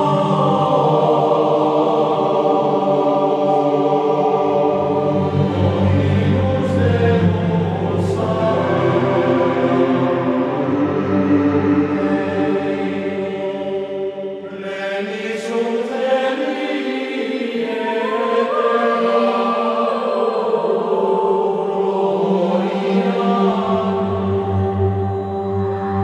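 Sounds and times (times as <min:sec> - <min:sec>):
choir chanting long notes: 0:00.0 - 0:26.0.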